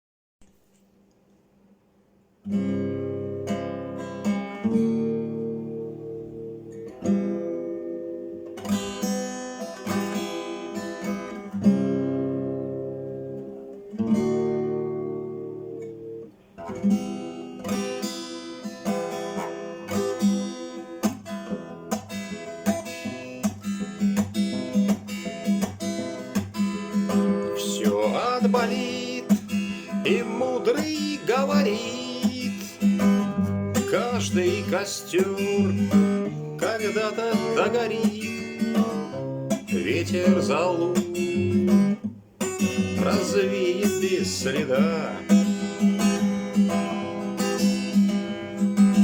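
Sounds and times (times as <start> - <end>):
acoustic guitar strumming: 2.4 - 49.0.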